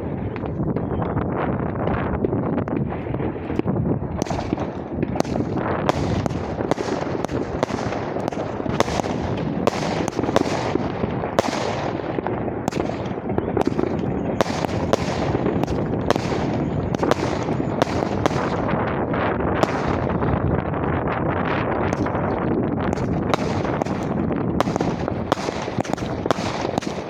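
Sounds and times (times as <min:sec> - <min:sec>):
distant fireworks bangs: 0:02.1 - 0:27.0.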